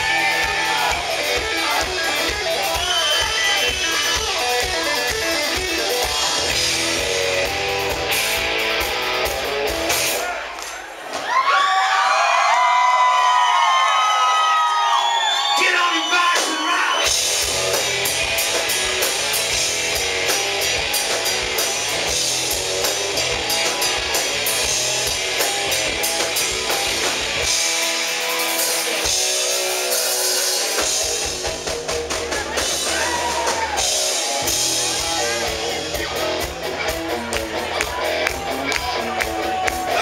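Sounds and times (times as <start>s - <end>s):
bass guitar: 0.0s - 10.5s, 16.4s - 40.0s
electric guitars: 0.0s - 10.6s, 16.3s - 40.0s
drum kit: 0.0s - 10.8s, 15.6s - 40.0s.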